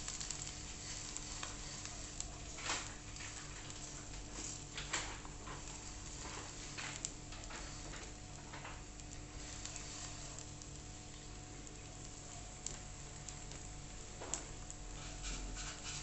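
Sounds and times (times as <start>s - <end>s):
dough sizzling in a pan: 0.0s - 16.0s
oil crackling: 0.0s - 16.0s.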